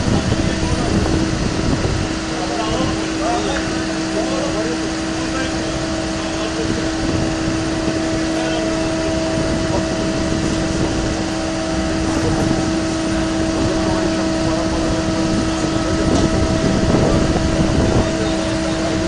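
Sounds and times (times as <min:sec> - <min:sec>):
travel lift mechanical hum: 0:00.0 - 0:19.0.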